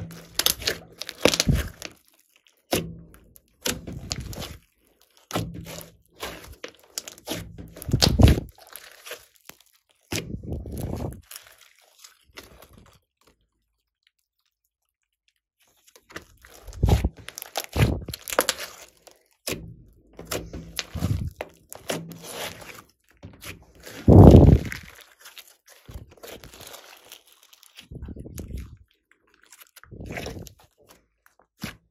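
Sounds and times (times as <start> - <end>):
hands squishing slime: 0.0 - 14.6, 15.6 - 31.9
wet squelches and sticky pops: 0.1 - 31.9.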